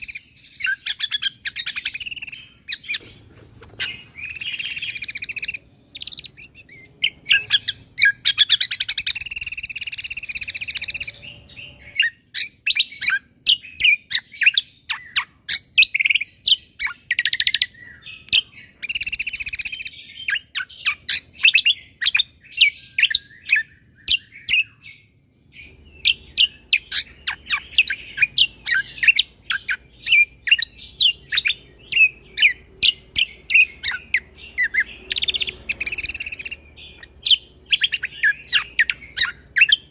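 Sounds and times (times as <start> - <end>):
bird singing chips and trills: 0.0 - 39.9.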